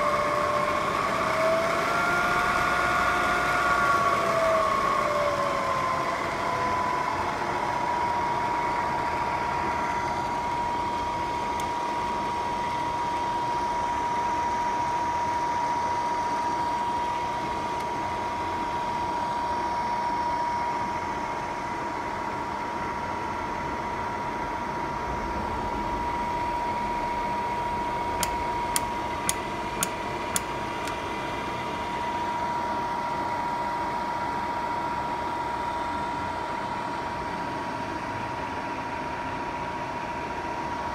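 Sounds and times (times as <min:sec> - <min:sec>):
milling machine spindle whine: 0:00.0 - 0:40.9.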